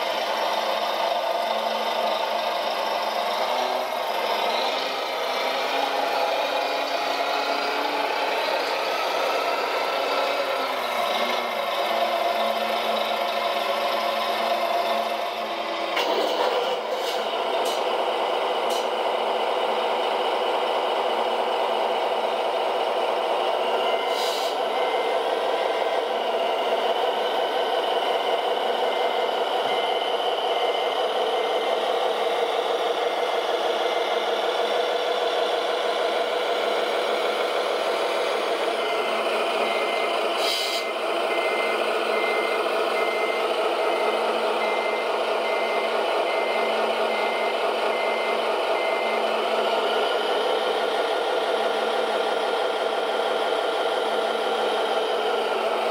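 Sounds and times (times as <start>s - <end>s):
simulated diesel engine rattling: 0.0s - 55.9s.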